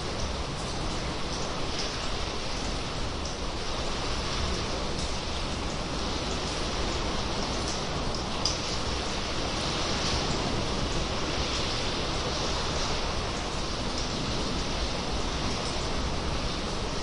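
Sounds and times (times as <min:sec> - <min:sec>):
sharp drip-like tick: 0:00.0 - 0:03.6, 0:04.2 - 0:11.8, 0:13.0 - 0:14.4, 0:15.4 - 0:16.5
sea water washing in a cave: 0:00.0 - 0:17.0.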